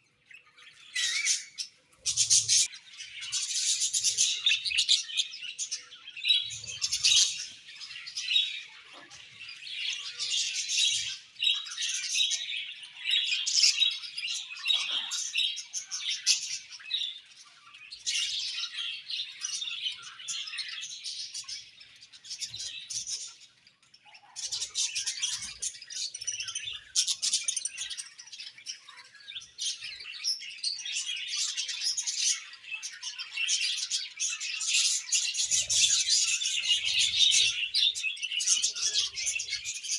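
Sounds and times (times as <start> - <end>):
budgerigars chattering and chirping: 0.3 - 39.9.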